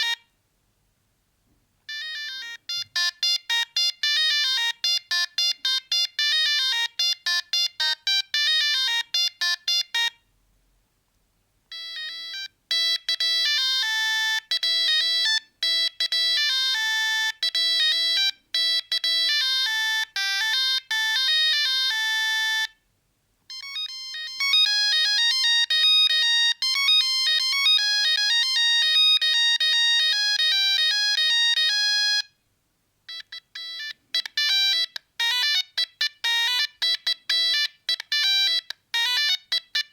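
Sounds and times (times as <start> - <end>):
mobile phone beeping ringtone: 0.0 - 0.3, 1.9 - 10.2, 11.7 - 22.8, 23.5 - 32.4, 33.1 - 39.9.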